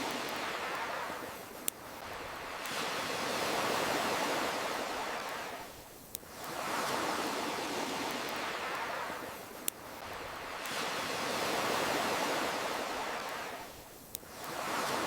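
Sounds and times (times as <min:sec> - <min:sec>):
campfire crackling: 0:00.0 - 0:15.0
ocean waves washing in: 0:00.0 - 0:15.0.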